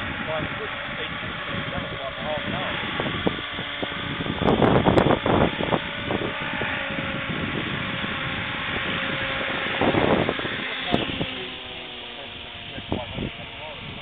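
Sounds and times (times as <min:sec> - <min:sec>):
electric helicopter motor whine: 0:00.0 - 0:14.0
wind buffeting microphone: 0:00.0 - 0:14.0.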